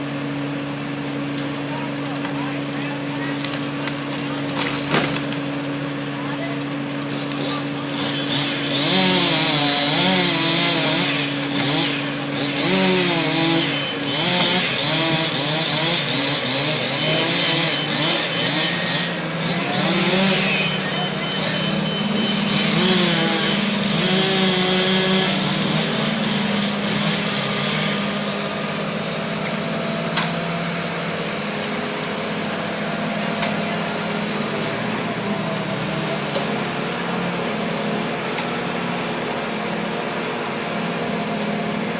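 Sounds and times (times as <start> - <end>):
engine drone: 0.0 - 41.9
chainsaw cutting wood: 1.3 - 5.8, 7.0 - 41.9.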